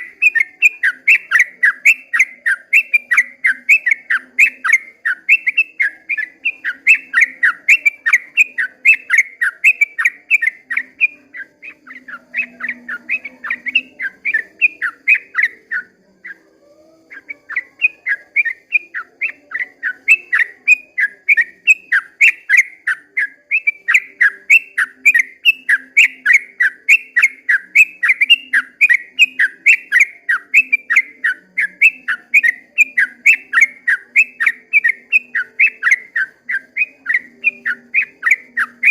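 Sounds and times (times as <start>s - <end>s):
bulbul singing falling whistles: 0.0s - 38.9s.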